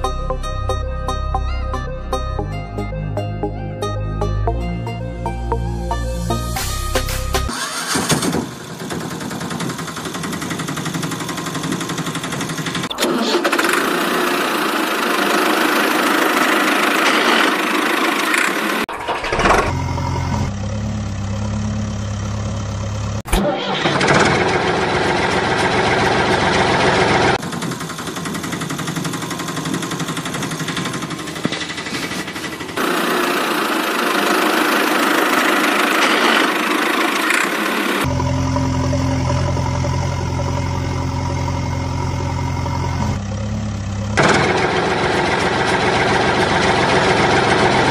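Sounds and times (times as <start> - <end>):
vehicle engine running and idling: 4.5 - 47.9.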